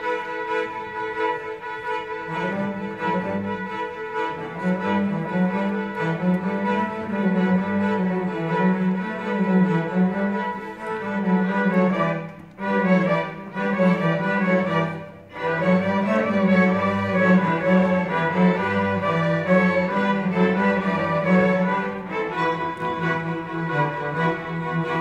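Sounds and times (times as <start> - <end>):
string orchestra playing: 0.0 - 25.0.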